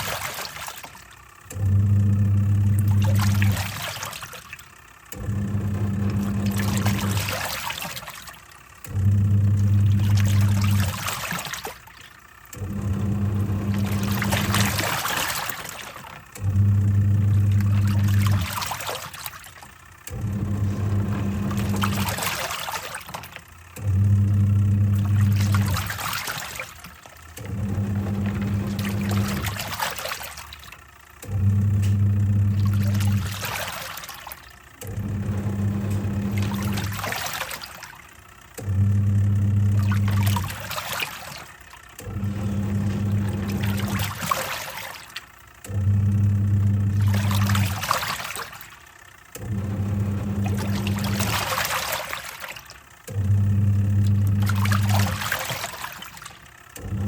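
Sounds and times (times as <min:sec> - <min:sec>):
washing machine motor humming: 0:00.0 - 0:57.0
water churning and sloshing: 0:00.0 - 0:57.0.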